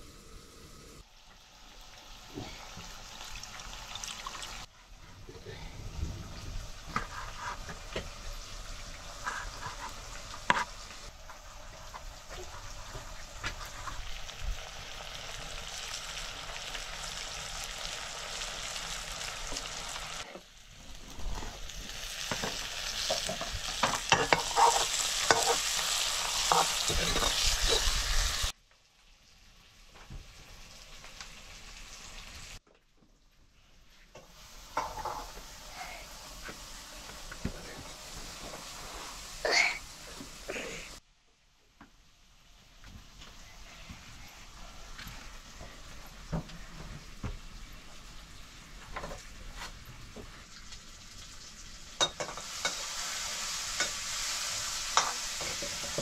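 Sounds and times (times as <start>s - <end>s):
food sizzling in frying pan: 0.0s - 4.7s, 6.2s - 32.6s, 34.2s - 41.0s, 42.0s - 56.0s.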